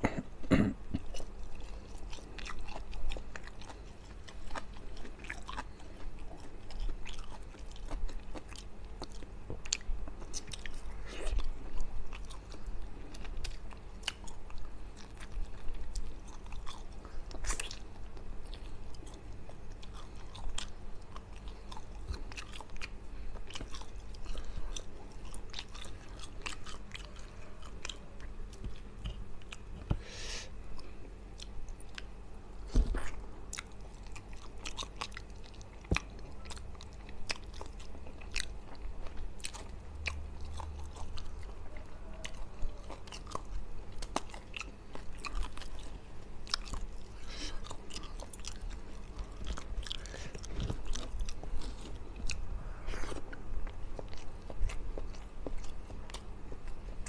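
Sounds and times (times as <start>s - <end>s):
person chewing food: 0.9s - 57.0s.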